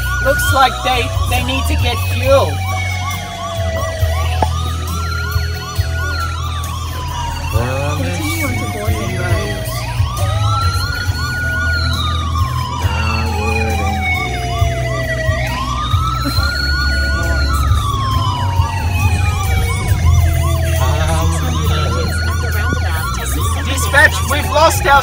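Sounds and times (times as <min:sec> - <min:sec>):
car engine and road rumble: 0:00.0 - 0:25.0
emergency siren wailing: 0:00.0 - 0:25.0
fast pulsing siren tone: 0:00.0 - 0:25.0.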